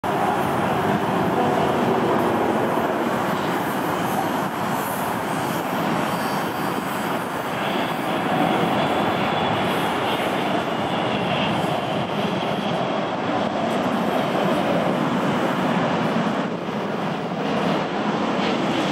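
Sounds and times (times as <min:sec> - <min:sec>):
jet engine rumble: 0:00.0 - 0:18.9.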